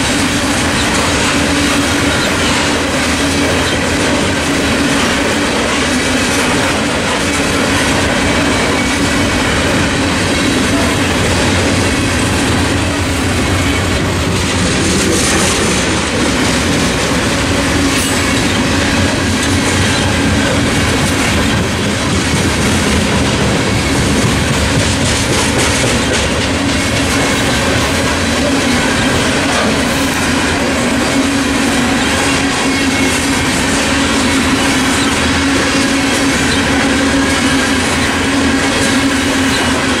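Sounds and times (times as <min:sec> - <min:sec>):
freight train rumbling past: 0:00.0 - 0:40.0
wheels clacking over rail joints: 0:00.0 - 0:40.0.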